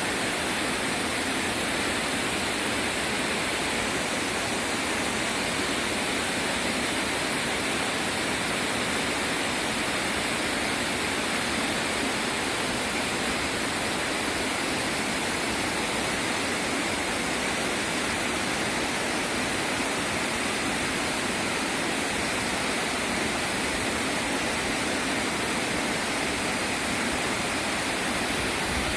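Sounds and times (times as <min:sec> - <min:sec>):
waterfall roaring: 0:00.0 - 0:28.9.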